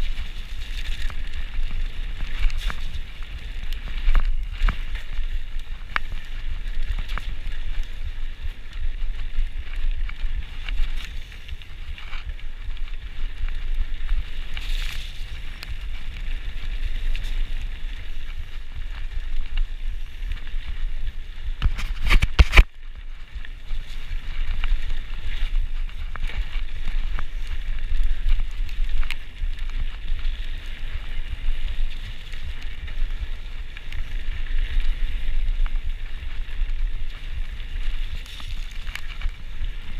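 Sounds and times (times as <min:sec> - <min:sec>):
bike rattling: 0:00.0 - 0:39.9
wind across microphone: 0:00.0 - 0:39.9.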